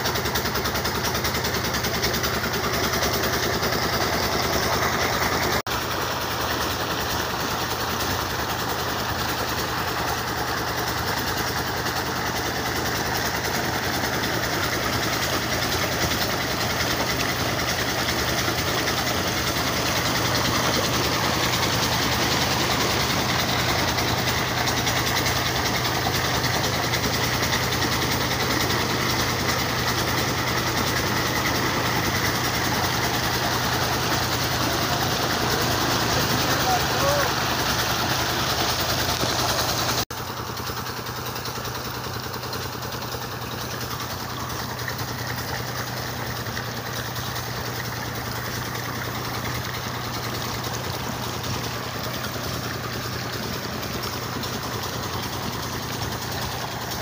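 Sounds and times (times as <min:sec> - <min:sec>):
water gushing into tank: 0:00.0 - 0:40.0, 0:41.1 - 0:57.0
pump engine running: 0:00.0 - 0:57.0.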